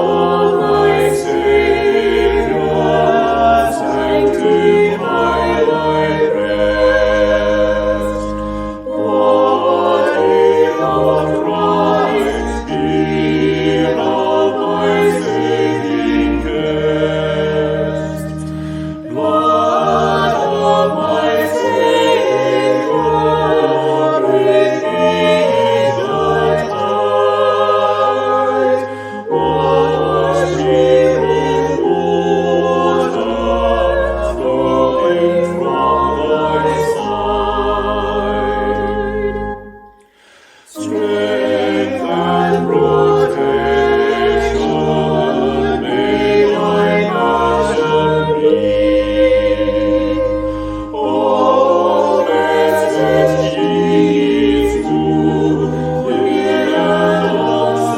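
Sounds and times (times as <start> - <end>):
choir singing a hymn: 0.0 - 57.9.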